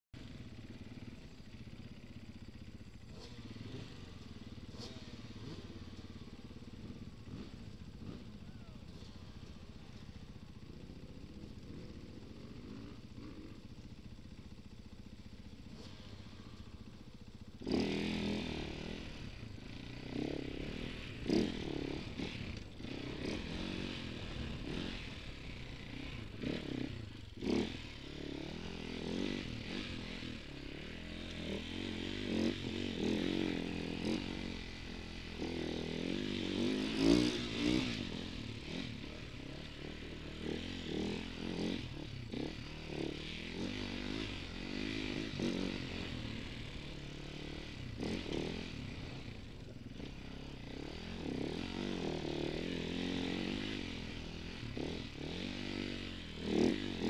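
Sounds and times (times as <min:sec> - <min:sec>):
motorcycle engine revving: 0:00.2 - 0:57.0.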